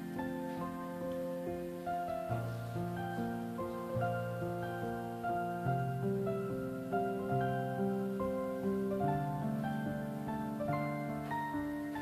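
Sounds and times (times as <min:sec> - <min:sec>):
slow gentle background music: 0:00.0 - 0:12.0.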